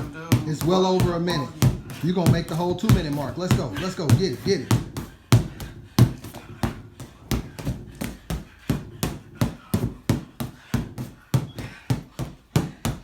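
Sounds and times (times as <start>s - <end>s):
punches on a punching bag: 0.0s - 13.0s.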